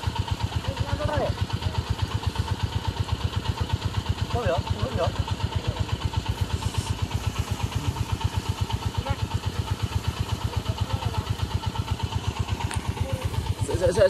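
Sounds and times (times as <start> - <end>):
engine idling with thumping beat: 0.0 - 14.0.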